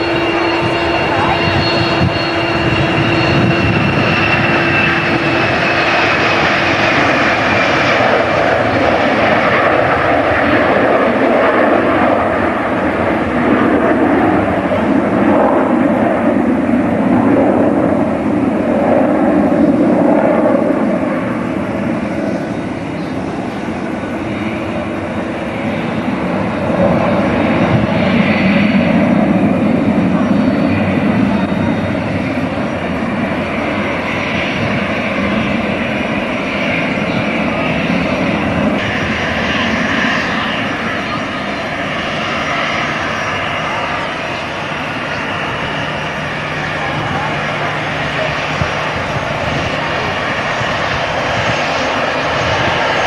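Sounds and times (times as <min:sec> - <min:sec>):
airliner engines running: 0:00.0 - 0:53.0.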